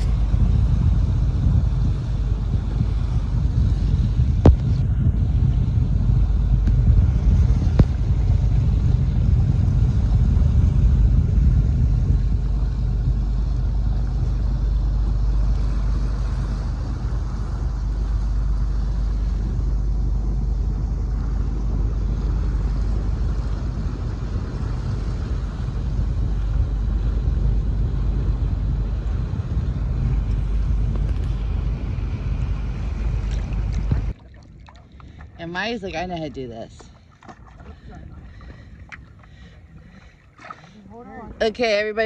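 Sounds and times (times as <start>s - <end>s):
boat motor rumbling: 0.0s - 42.0s.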